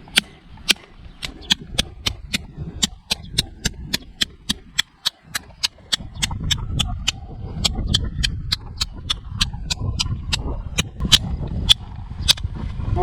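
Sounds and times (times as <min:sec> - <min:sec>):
knife blade striking hard object: 0:00.0 - 0:11.8.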